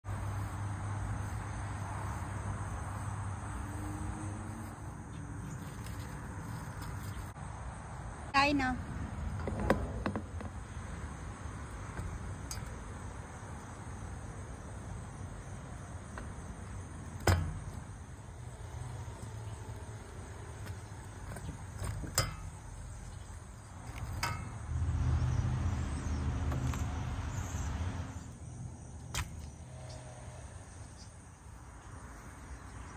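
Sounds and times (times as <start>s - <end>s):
vehicle engine rumble: 0.0s - 32.9s.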